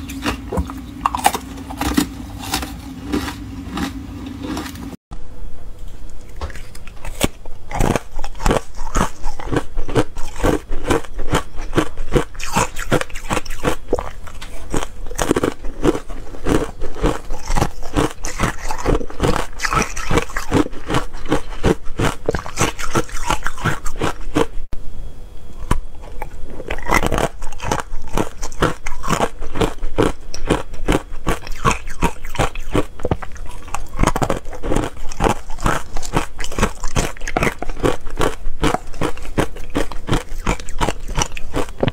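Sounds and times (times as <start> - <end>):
ice crunching while chewing: 0.0 - 4.9, 6.2 - 24.5, 25.6 - 41.9.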